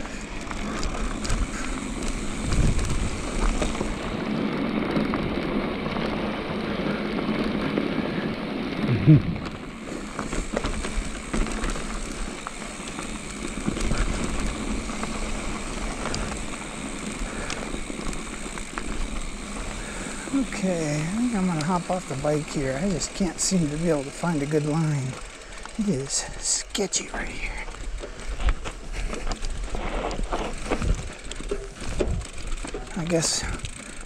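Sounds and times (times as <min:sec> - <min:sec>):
bike clattering over bumps: 0:00.0 - 0:26.2, 0:27.1 - 0:34.0.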